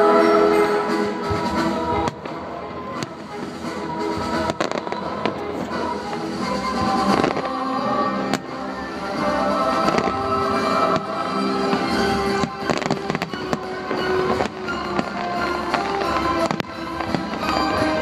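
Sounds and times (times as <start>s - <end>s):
music with long held notes: 0.0s - 18.0s
fireworks bangs: 1.2s - 18.0s.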